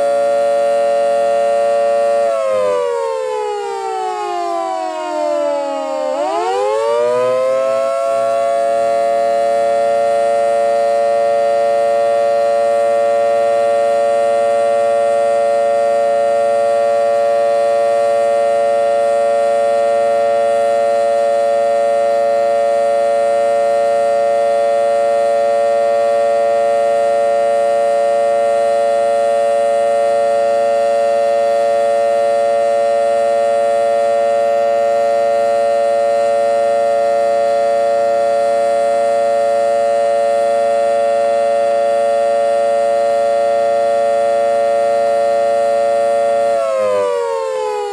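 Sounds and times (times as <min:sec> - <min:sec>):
warning sirens wailing: 0:00.0 - 0:47.9.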